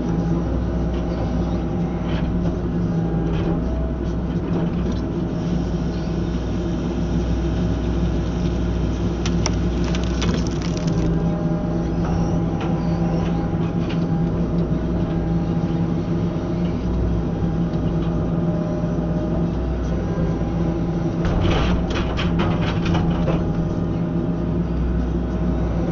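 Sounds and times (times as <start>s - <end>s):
excavator engine drone: 0.0s - 25.9s.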